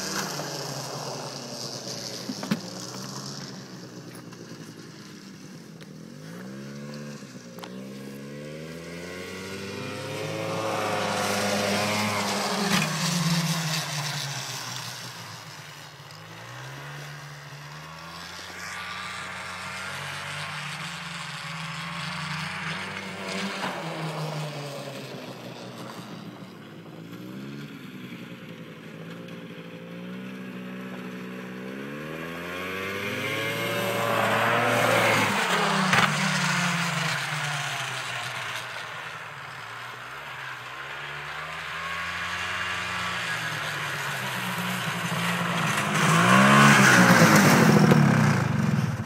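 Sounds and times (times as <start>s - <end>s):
snowmobile engine running: 0.0s - 49.0s.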